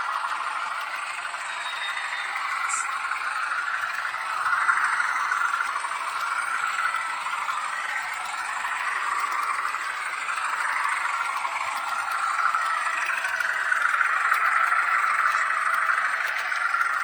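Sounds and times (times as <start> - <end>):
model train motor whirring: 0.0 - 17.0
wheels rattling on rails: 0.0 - 17.0.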